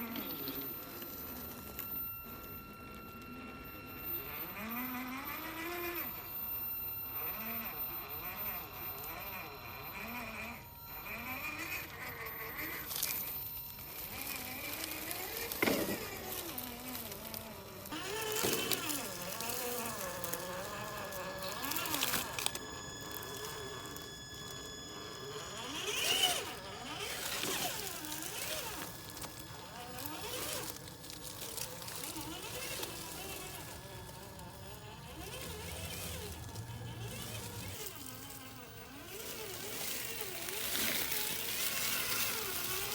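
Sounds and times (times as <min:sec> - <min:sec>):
toy car electric motor whining: 0:00.0 - 0:42.9.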